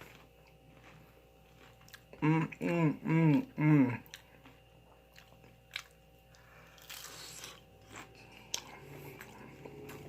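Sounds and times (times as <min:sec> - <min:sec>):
person chewing and crunching food: 0:00.0 - 0:10.0.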